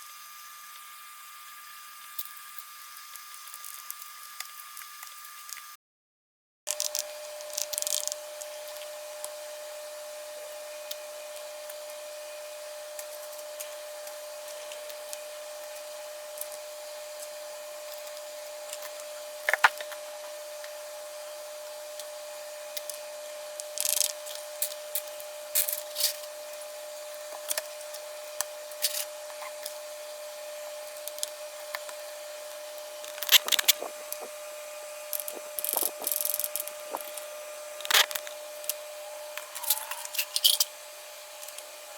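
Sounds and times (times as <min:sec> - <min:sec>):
faint hum: 0:06.7 - 0:41.9.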